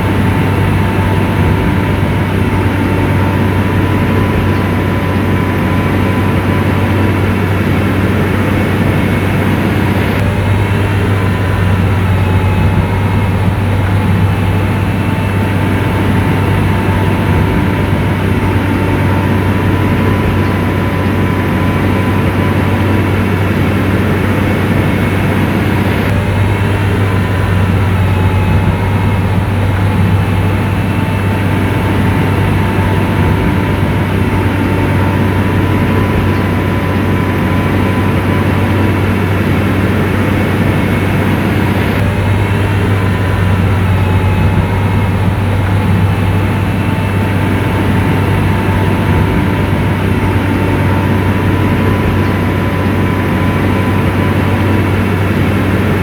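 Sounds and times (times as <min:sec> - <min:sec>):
diesel engine droning: 0:00.0 - 0:56.0
faint wavering whine: 0:00.0 - 0:56.0.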